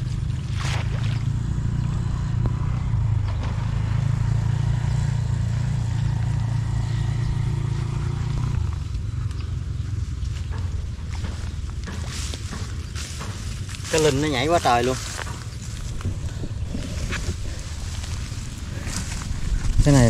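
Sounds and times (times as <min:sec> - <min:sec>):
small engine humming: 0:00.0 - 0:20.0.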